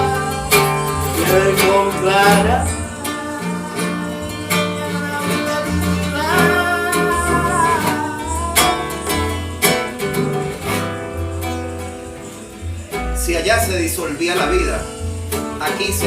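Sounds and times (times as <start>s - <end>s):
acoustic guitars strummed and plucked: 0.0s - 16.0s
bass line: 0.0s - 16.0s
melodic instrumental line: 0.0s - 16.0s.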